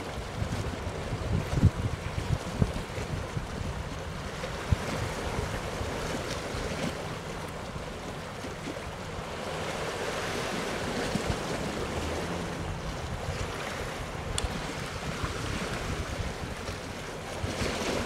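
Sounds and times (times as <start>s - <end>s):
wind buffeting microphone: 0.0s - 7.9s, 9.2s - 18.0s
sea washing: 0.0s - 18.0s.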